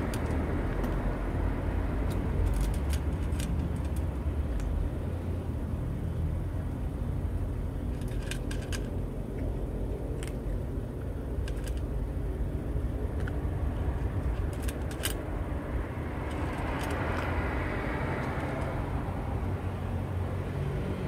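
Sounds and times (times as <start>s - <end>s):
cat eating from metal bowl: 0.0s - 19.0s
low rumble of road traffic: 0.0s - 21.0s
vehicle approaching: 0.0s - 21.0s.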